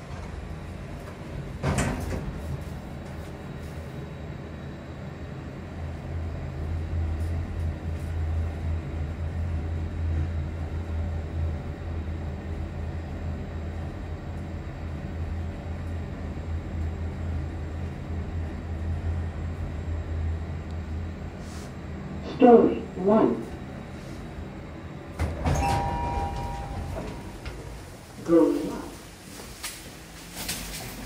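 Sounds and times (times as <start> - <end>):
lift car humming and rumbling: 0.0 - 31.0.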